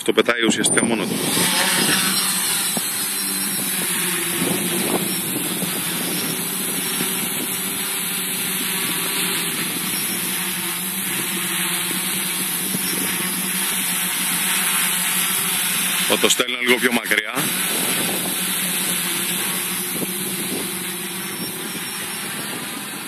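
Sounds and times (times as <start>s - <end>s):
quadcopter motors humming: 0.0s - 23.0s
wind noise: 0.0s - 23.0s.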